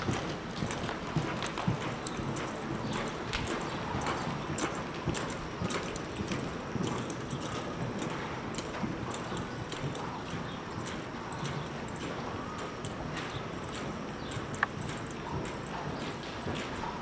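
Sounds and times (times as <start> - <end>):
horse hoofbeats on dirt: 0.0 - 17.0.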